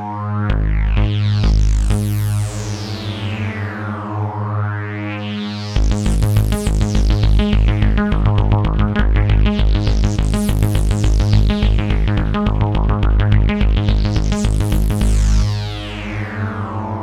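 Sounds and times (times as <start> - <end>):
pulsing synth bass: 0.0 - 17.0.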